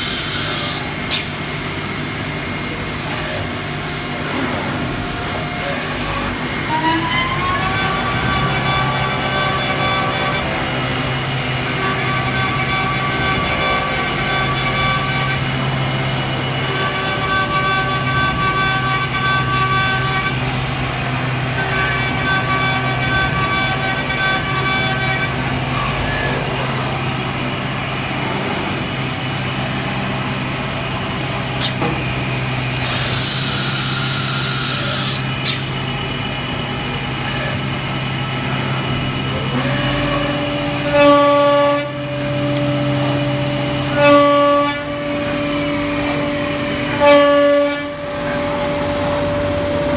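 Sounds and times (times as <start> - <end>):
lathe motor hum: 0.0 - 49.9.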